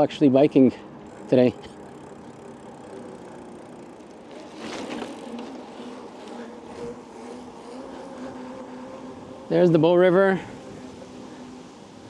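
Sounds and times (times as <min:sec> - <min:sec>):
bicycle rolling on paved path: 0:00.0 - 0:12.0
faint steady hum: 0:00.0 - 0:12.0.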